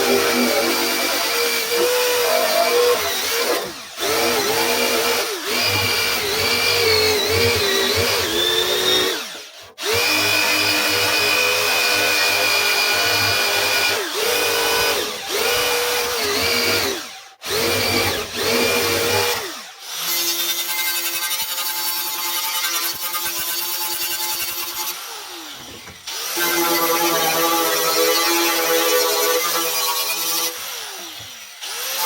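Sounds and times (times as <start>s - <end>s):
electric power tool motor: 0.0s - 21.4s, 24.8s - 32.0s.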